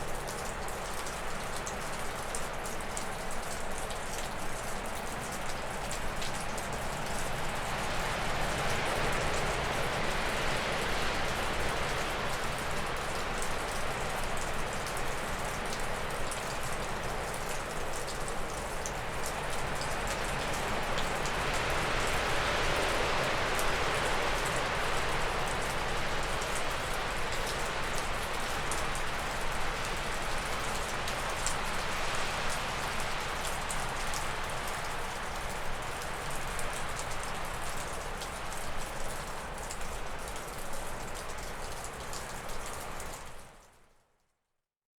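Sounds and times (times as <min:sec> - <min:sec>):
water dripping off a roof: 0:00.0 - 0:44.2.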